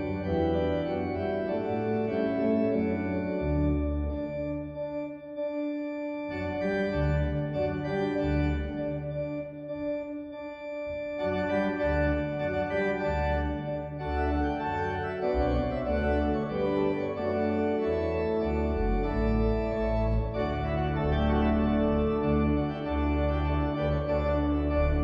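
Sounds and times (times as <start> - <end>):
organ chords: 0.0 - 25.0.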